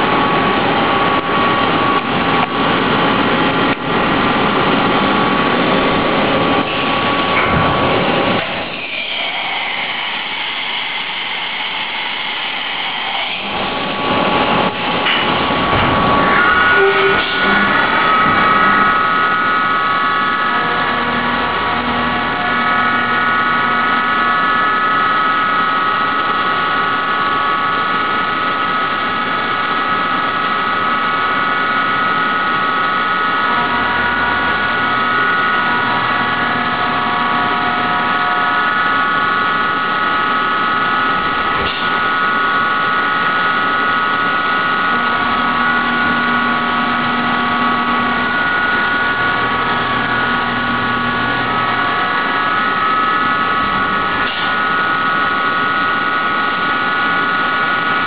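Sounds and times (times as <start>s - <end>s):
milling machine whine: 0.0s - 58.0s.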